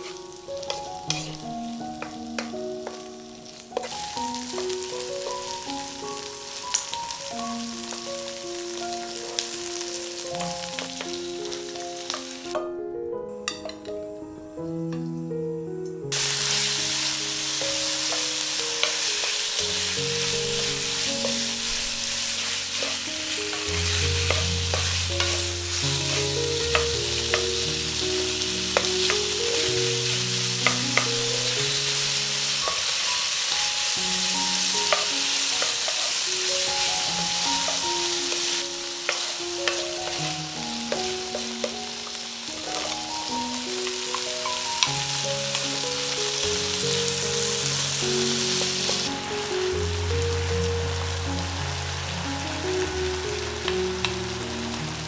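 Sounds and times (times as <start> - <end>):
chicken sizzling in hot oil: 0.0 - 12.6, 16.1 - 55.0
gentle melodic background music: 0.0 - 55.0.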